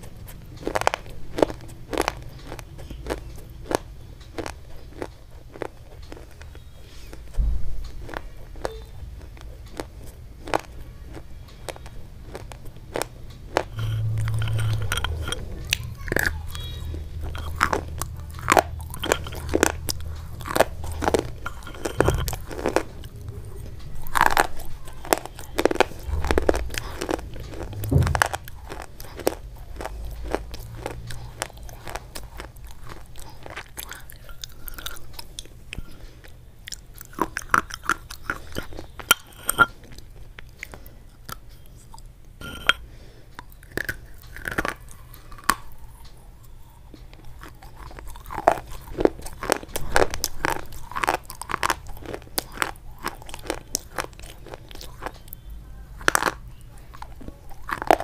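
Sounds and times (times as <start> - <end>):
crunchy food being chewed: 0.0 - 58.0.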